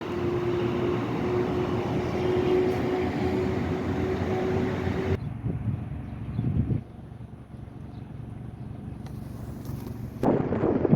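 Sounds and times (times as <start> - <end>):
outdoor noise: 0.0 - 10.9.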